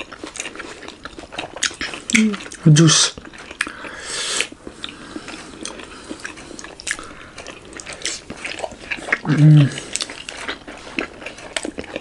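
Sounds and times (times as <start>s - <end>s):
wet biting and chewing: 0.0s - 12.0s.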